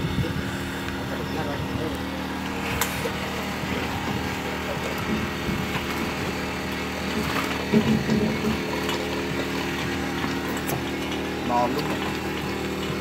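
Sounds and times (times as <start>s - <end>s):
engine running with steady hum: 0.0s - 13.0s.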